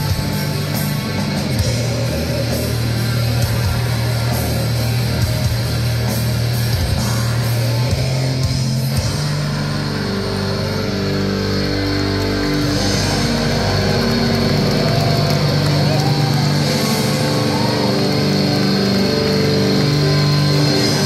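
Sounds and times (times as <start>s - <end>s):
distorted guitars: 0.0s - 21.0s
drums: 0.0s - 21.0s
low bass notes: 0.0s - 21.0s.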